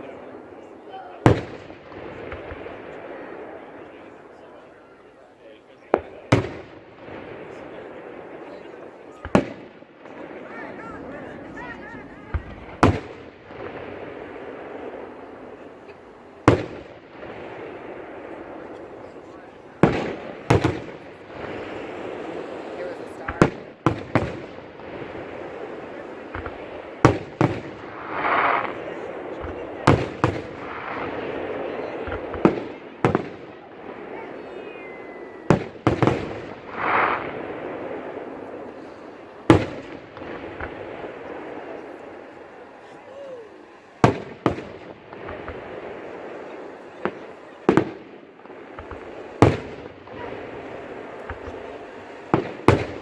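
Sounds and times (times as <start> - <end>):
fireworks show background noise: 0.0 - 53.0.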